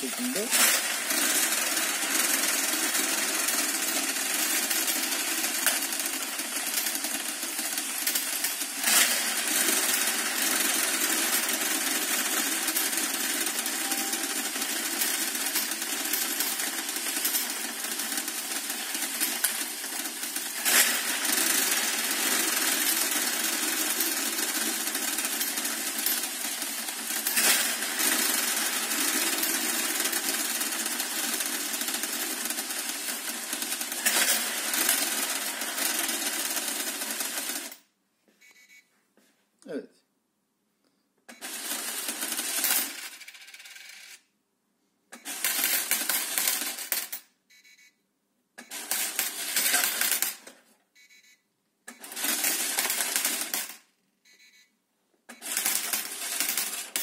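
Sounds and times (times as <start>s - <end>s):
coins rattling through counting machine: 0.0s - 37.9s, 41.3s - 44.3s, 45.2s - 47.4s, 48.6s - 50.6s, 51.9s - 54.5s, 55.3s - 57.0s.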